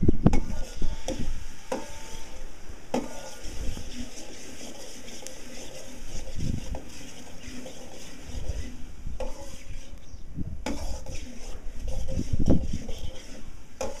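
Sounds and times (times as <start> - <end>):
food sizzling: 0.0 - 10.0, 10.6 - 14.0
metal spatula scraping a metal pan: 0.3 - 14.0.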